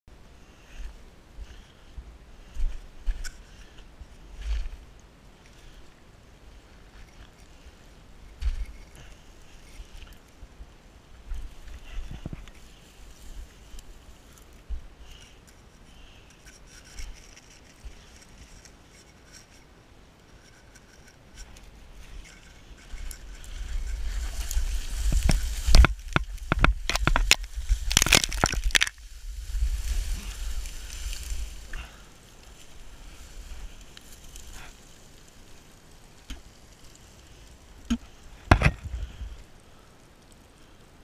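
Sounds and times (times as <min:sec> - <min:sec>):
dirt and rocks sliding: 0:02.4 - 0:41.0.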